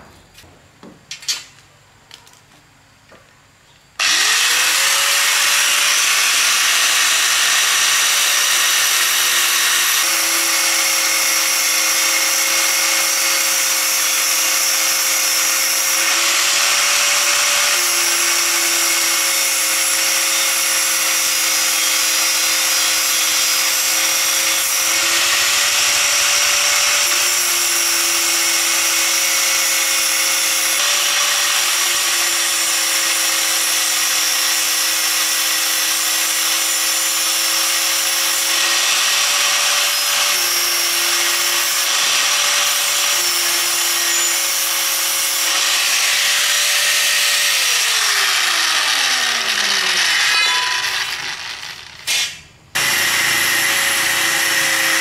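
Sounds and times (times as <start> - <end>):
power tool motor whining: 4.0 - 55.0.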